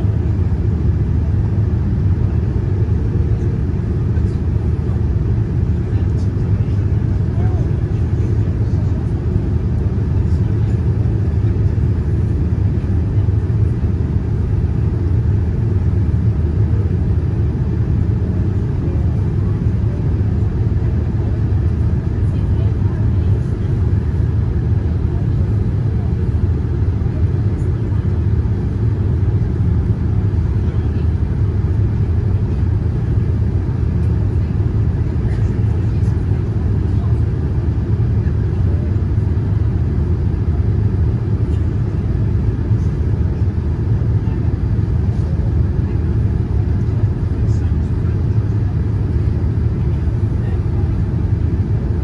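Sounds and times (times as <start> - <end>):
airliner cabin low rumble: 0.0 - 52.0.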